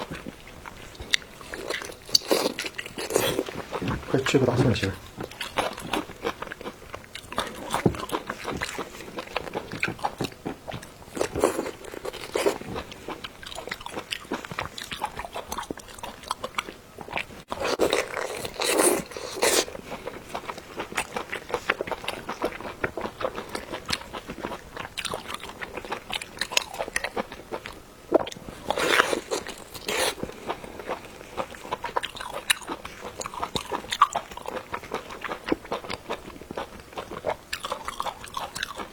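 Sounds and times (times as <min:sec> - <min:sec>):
people chewing crunchy food: 0:00.0 - 0:38.9.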